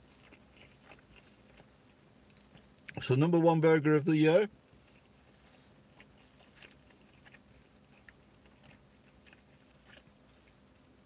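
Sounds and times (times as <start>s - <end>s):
faint chewing: 0.0s - 3.2s, 4.3s - 11.0s.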